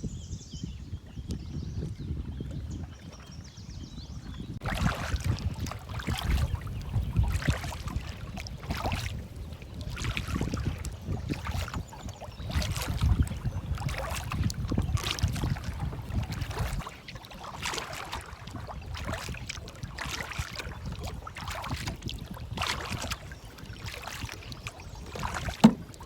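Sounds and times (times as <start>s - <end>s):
wind buffeting microphone: 0.0s - 26.0s
canoe paddle splashing in water: 4.6s - 26.0s.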